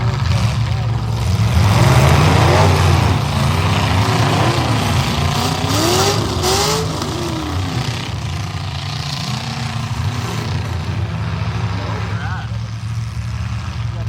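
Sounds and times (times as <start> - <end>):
heavy low rumble: 0.0 - 14.0
truck engines revving: 0.0 - 14.0.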